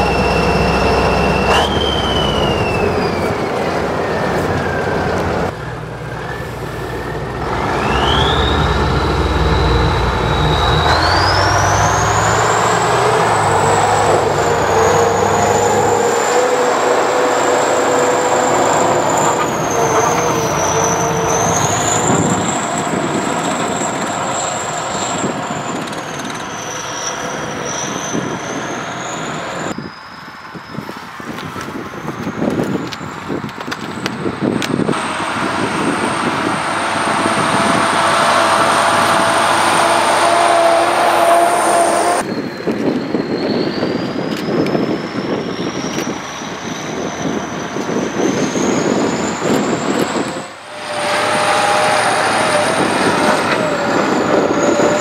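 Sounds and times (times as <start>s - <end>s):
diesel engine running hard: 0.0s - 29.8s, 34.2s - 55.0s
high engine whine: 0.0s - 55.0s.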